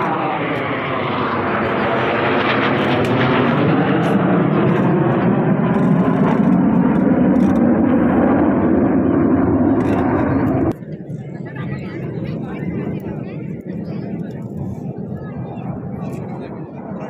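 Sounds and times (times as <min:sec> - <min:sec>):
aircraft engine rushing: 0:00.0 - 0:17.0.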